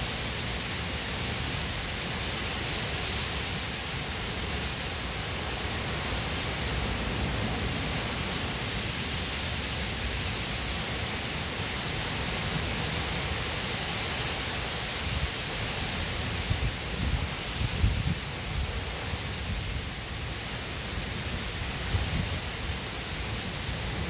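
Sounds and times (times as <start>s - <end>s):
heavy rain on pavement and cars: 0.0s - 24.0s.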